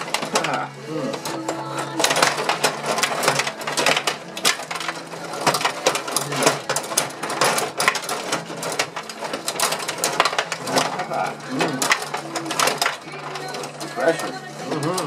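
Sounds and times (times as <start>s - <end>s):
metal rods rattling: 0.0s - 15.0s
plastic players clacking: 0.0s - 15.0s.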